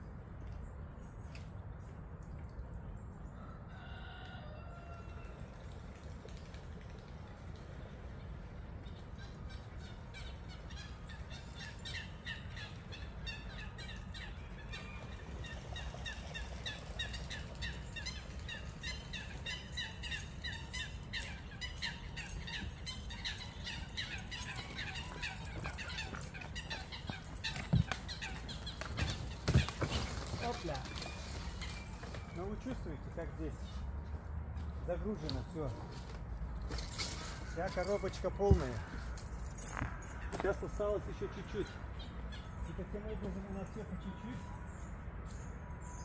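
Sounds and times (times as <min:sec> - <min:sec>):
birds chirping: 0:07.8 - 0:46.0.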